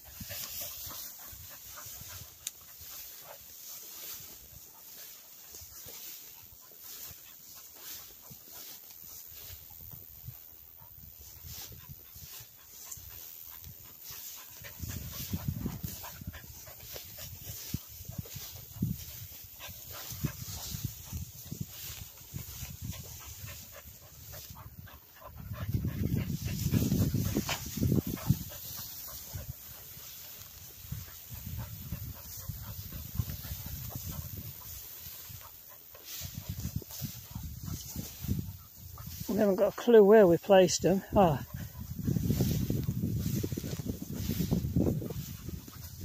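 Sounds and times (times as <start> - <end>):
dog panting: 0.0 - 39.6, 40.9 - 42.7.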